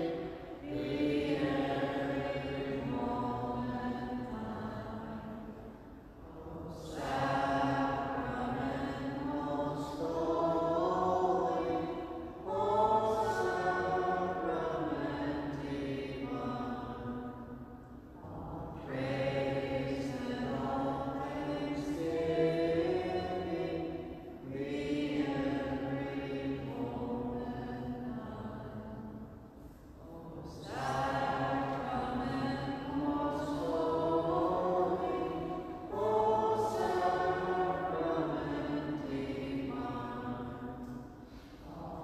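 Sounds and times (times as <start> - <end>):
voices singing a hymn: 0.0 - 42.0.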